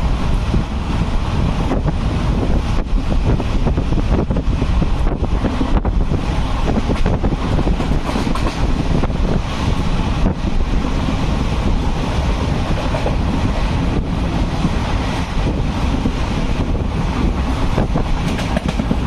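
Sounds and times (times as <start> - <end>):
passenger train running on track: 0.0 - 19.0
wind buffeting microphone: 0.0 - 19.0.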